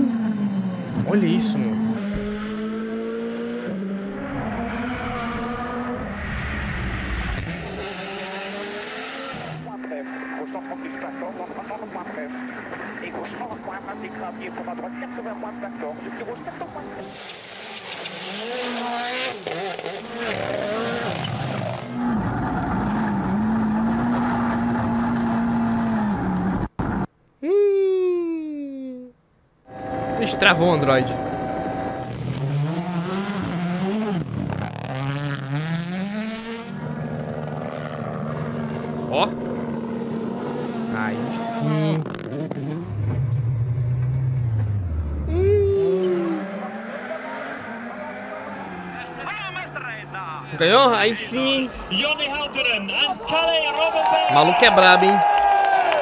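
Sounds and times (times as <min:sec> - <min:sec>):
rally car engine revving high: 0:00.0 - 0:26.7, 0:29.7 - 0:51.9.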